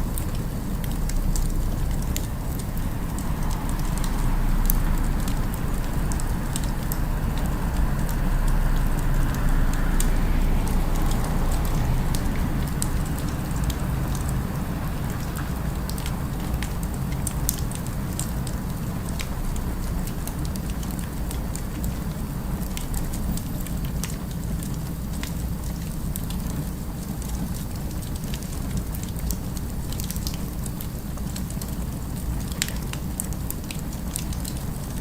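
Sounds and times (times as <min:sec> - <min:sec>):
city background rumble: 0:00.0 - 0:35.0
wood fire crackling: 0:00.0 - 0:35.0.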